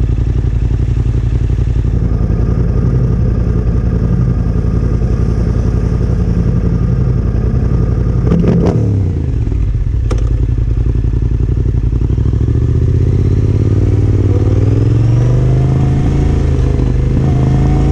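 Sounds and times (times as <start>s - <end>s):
motorcycle engine riding: 0.0s - 17.9s.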